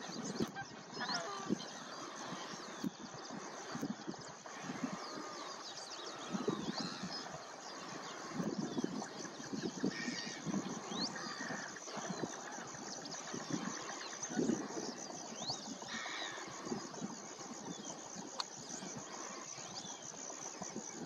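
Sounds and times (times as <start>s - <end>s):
waterbirds chattering: 0.0s - 21.0s.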